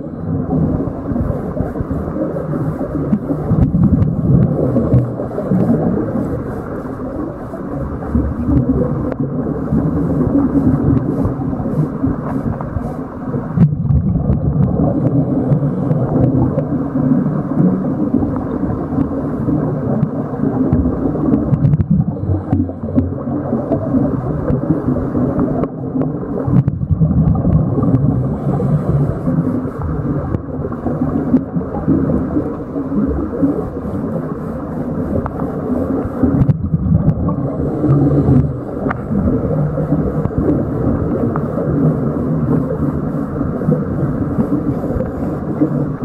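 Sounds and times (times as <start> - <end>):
muffled underwater rumble: 0.0 - 46.0.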